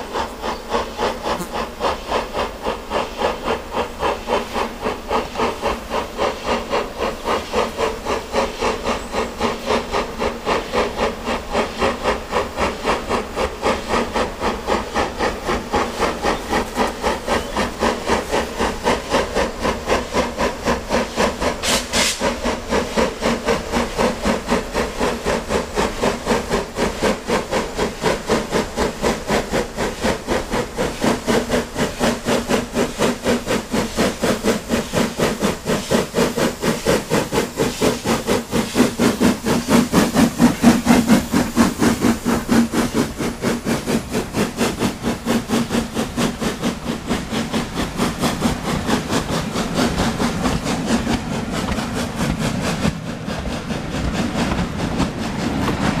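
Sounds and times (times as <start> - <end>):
steam hiss: 0.0 - 56.0
steam locomotive chuffing: 0.0 - 56.0.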